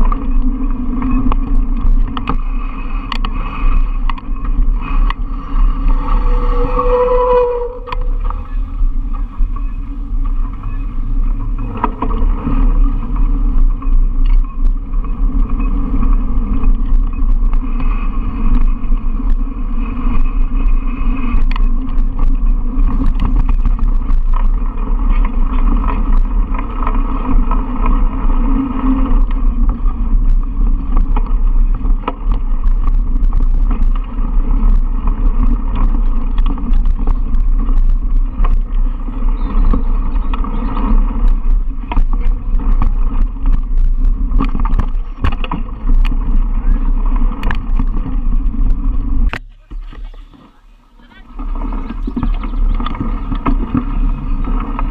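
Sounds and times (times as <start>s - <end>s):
bike knocks and rattles: 0.0s - 6.7s, 7.8s - 50.4s, 51.4s - 54.9s
bike tyres rumbling on dirt: 0.0s - 54.9s.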